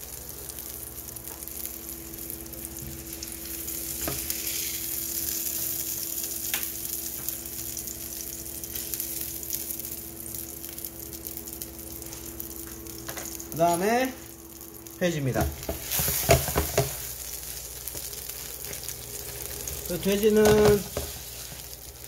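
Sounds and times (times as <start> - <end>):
frying pan sizzling: 0.0 - 22.0.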